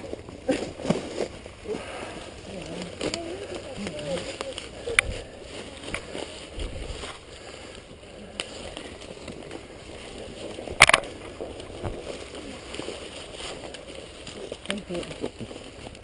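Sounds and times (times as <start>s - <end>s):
footsteps through brush: 0.0s - 16.0s
branch cracking: 0.5s - 16.0s.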